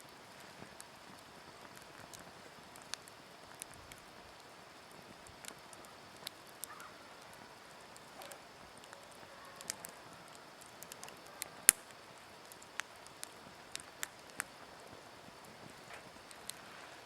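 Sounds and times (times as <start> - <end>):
campfire crackling: 0.0 - 17.0
faint steady hiss: 0.0 - 17.0.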